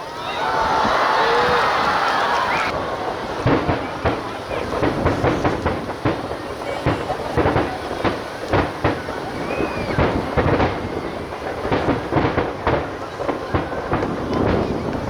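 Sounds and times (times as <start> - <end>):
distant fireworks booms and crackles: 0.0 - 15.0.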